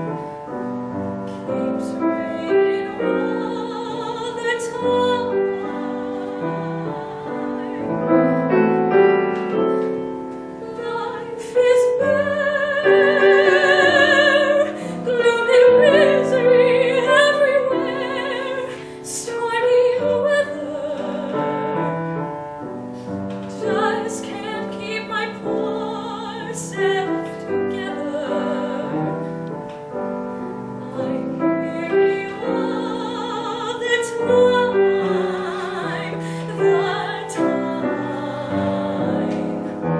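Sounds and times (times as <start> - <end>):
piano accompaniment: 0.0 - 39.9
woman singing jazz: 1.4 - 22.8, 23.5 - 39.9.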